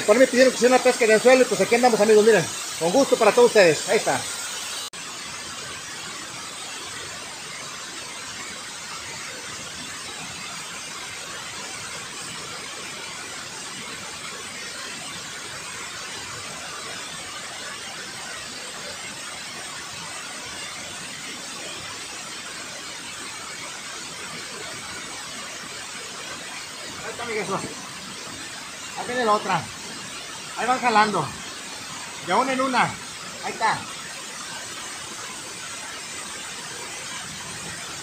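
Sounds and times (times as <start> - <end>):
water rushing down a spillway: 0.0 - 38.0.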